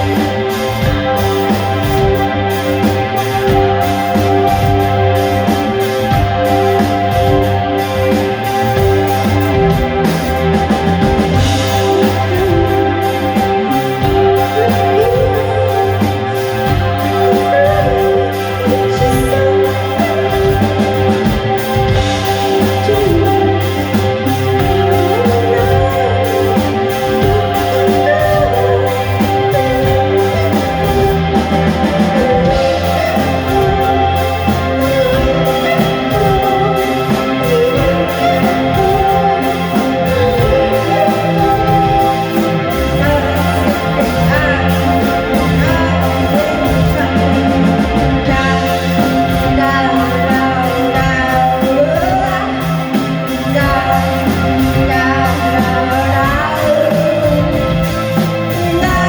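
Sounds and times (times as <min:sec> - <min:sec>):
guitar: 0:00.0 - 0:59.0
held bass notes: 0:00.0 - 0:59.0
person singing: 0:00.0 - 0:59.0
steady drum beat: 0:00.0 - 0:59.0.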